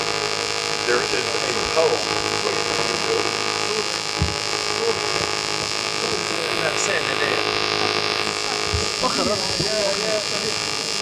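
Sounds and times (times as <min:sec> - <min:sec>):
faint murmur of voices: 0:00.0 - 0:11.0
steady multi-tone hum: 0:00.0 - 0:11.0.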